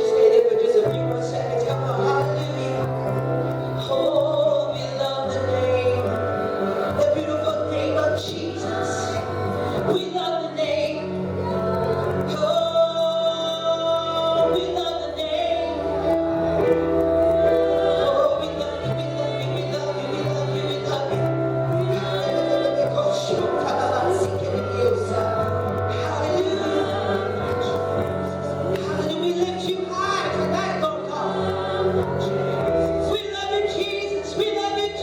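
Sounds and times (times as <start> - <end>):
voices singing gospel music: 0.0 - 35.0.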